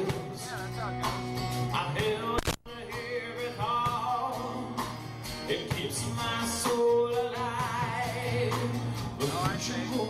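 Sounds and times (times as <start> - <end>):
acoustic rock band playing: 0.0 - 10.0
drums: 0.0 - 10.0
man singing: 0.0 - 10.0.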